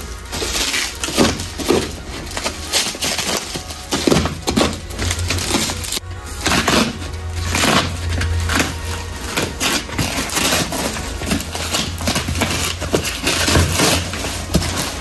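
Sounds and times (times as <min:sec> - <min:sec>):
hand tools and metal parts knocking: 0:00.0 - 0:15.0.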